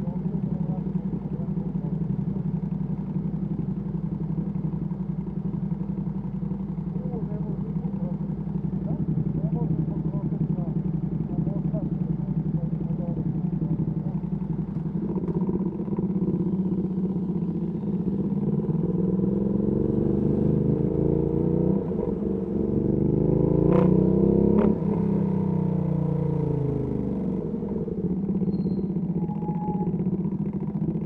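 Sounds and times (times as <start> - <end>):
motorcycle engine revving: 0.0 - 31.0
traffic: 0.0 - 31.0.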